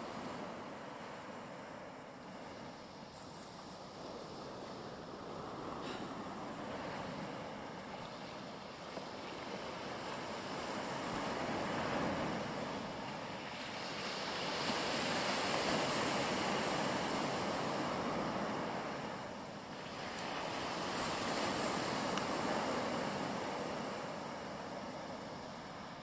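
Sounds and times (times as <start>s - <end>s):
waves on rocky shore: 0.0s - 26.0s.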